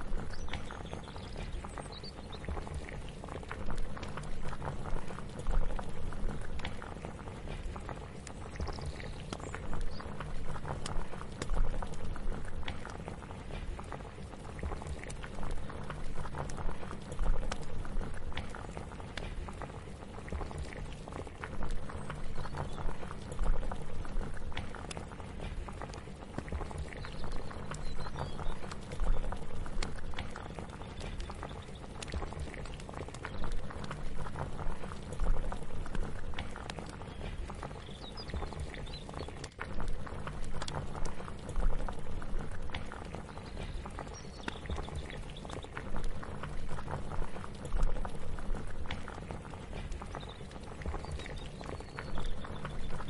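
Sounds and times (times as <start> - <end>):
pot bubbling at a boil: 0.0 - 53.0.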